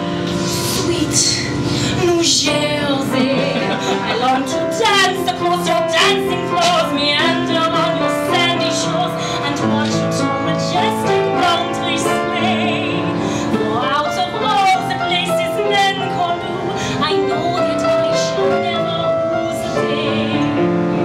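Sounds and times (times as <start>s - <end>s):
woman singing with vibrato: 0.0s - 20.7s
grand piano: 0.0s - 21.0s.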